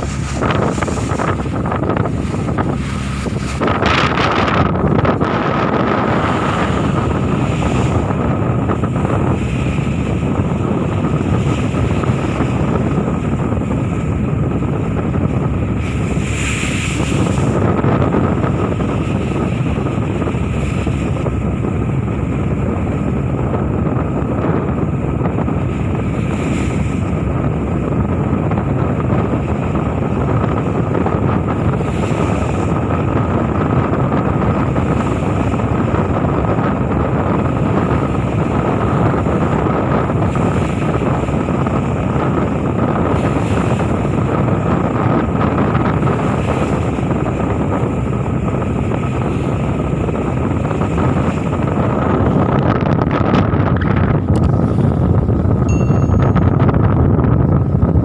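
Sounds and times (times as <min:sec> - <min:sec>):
sea washing: 0:00.0 - 0:56.4
boat engine droning: 0:00.0 - 0:58.0
wind buffeting microphone: 0:00.0 - 0:58.0.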